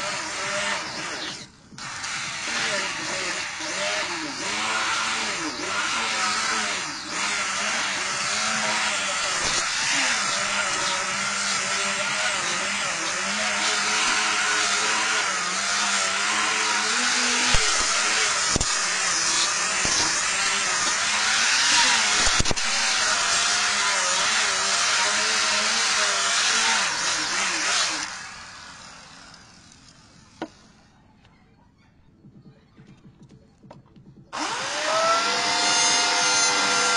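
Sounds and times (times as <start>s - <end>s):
angle grinder sanding wood: 0.0s - 30.7s, 34.4s - 36.9s.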